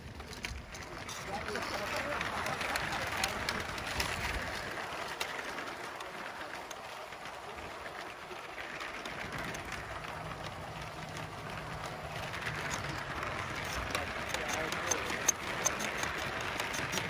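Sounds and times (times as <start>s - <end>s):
toy train wheels rattling on track: 0.0s - 17.0s
wheels clicking over rail joints: 0.0s - 17.0s.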